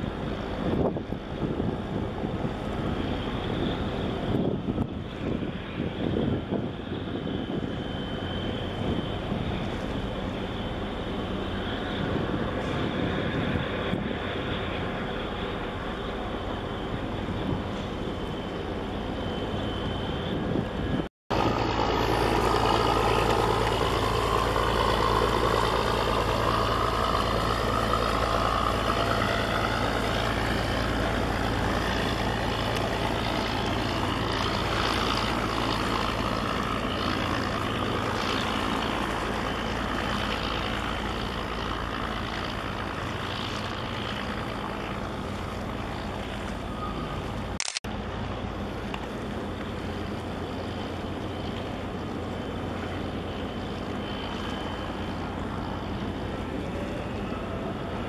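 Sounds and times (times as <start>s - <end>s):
constant rushing noise: 0.0s - 58.0s
low engine drone: 0.0s - 58.0s.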